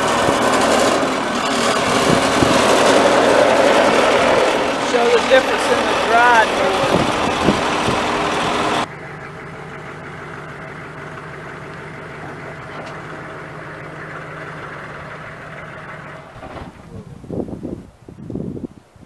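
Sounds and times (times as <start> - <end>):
engine running and idling: 0.0 - 18.7.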